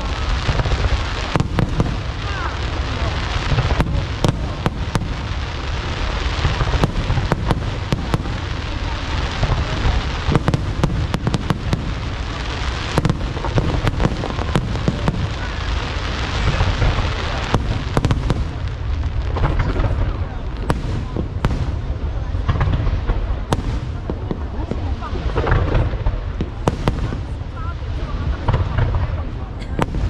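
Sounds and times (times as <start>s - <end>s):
fireworks bangs: 0.0s - 30.0s
fireworks rumble: 0.0s - 30.0s.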